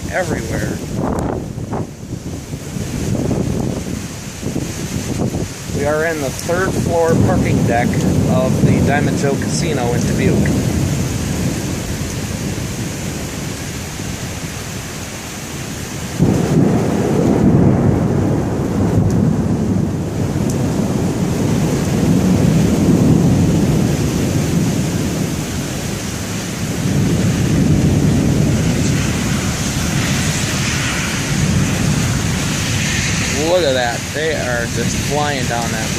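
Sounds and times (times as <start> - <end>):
deep thunder rumble: 0.0 - 35.9
heavy wind-driven rain: 0.0 - 35.9.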